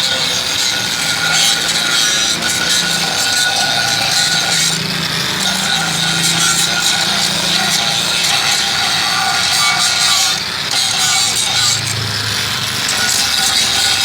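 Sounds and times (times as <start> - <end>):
grinder rasping on metal pan: 0.0 - 14.0.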